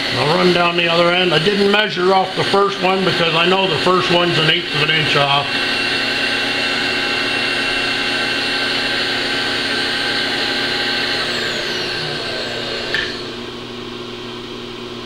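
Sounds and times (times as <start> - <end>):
milling machine motor whining: 0.0 - 15.0.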